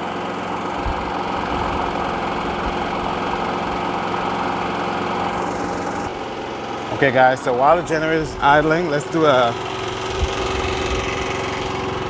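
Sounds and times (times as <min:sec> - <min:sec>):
generator engine idling: 0:00.0 - 0:12.0.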